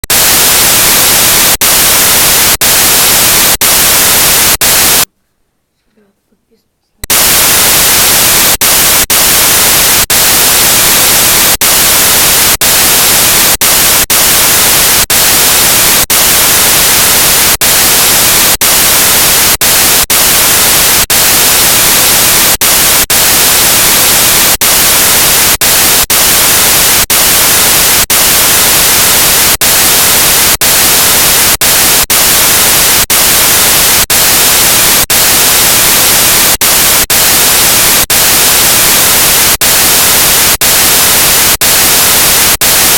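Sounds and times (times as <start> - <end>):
static hiss: 0.0 - 5.1, 7.0 - 42.9.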